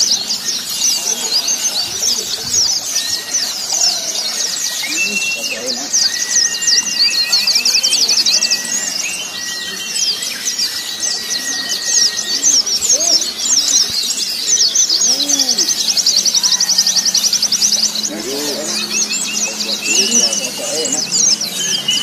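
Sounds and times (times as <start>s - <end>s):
lower bird calls: 0.0s - 22.0s
songbirds chattering trills: 0.0s - 22.0s.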